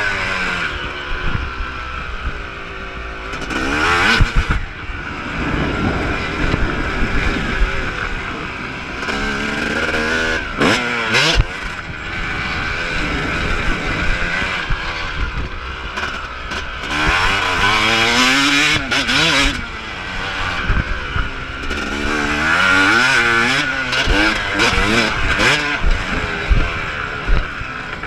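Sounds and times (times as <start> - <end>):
motocross engine revving: 0.0 - 28.0.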